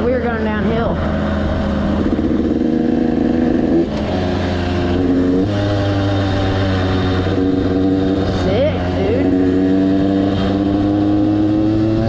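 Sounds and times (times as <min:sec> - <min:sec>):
two-stroke dirt bike engine: 0:00.1 - 0:12.0.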